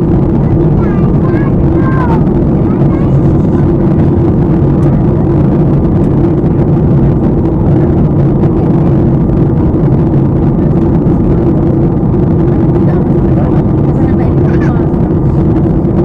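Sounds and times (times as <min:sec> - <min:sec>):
jet engines and airflow rushing: 0:00.0 - 0:16.0
steady low hum: 0:00.0 - 0:16.0.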